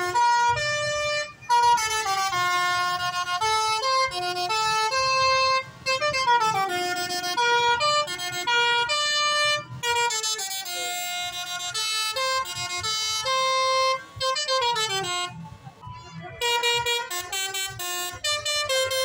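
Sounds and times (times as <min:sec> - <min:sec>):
low engine rumble: 0:00.0 - 0:19.0
multi-tone air horn playing a tune: 0:00.0 - 0:19.0.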